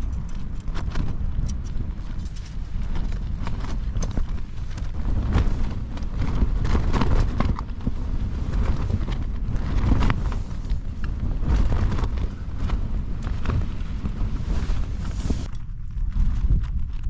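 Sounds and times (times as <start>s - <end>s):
tent fabric flapping and snapping: 0.0s - 17.0s
wind rumble on microphone: 0.0s - 17.0s.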